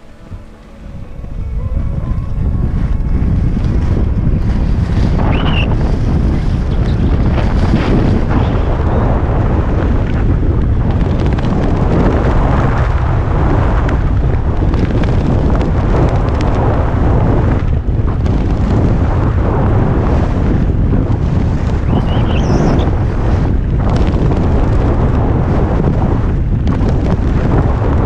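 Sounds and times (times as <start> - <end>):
wind buffeting microphone: 0.0 - 28.0
skis scraping over packed snow: 3.4 - 28.0.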